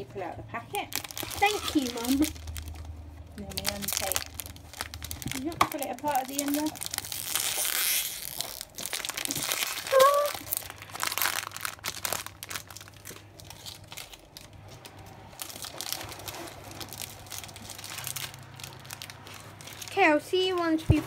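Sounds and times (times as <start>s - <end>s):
plastic wrapper crinkling: 0.7s - 21.0s.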